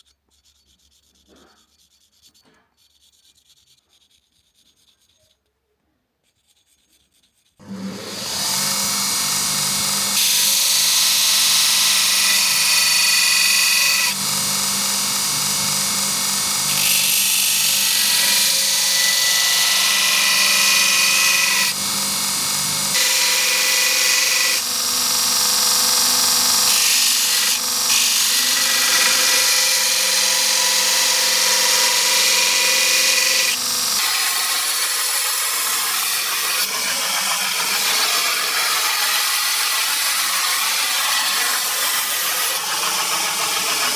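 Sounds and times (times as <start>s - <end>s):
power tool motor whining: 7.6s - 43.9s.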